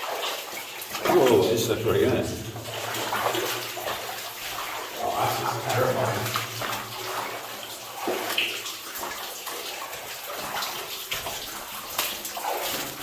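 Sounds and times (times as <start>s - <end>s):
footsteps splashing through water: 0.0s - 13.0s.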